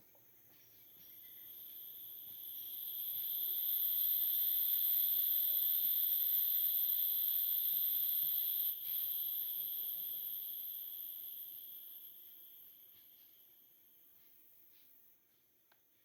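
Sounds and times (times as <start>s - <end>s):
high-pitched insect chorus: 0.3s - 13.3s.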